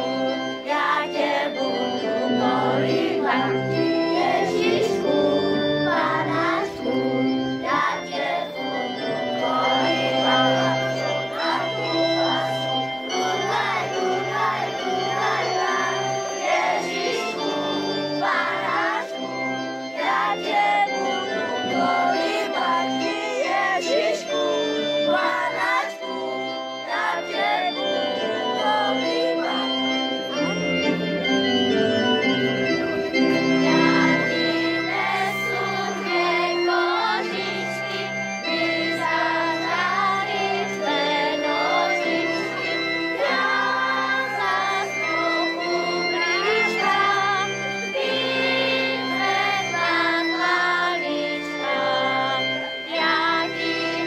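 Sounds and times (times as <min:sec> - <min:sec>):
children singing together: 0:00.0 - 0:31.0, 0:33.2 - 0:54.0
electronic keyboard chords: 0:00.0 - 0:54.0.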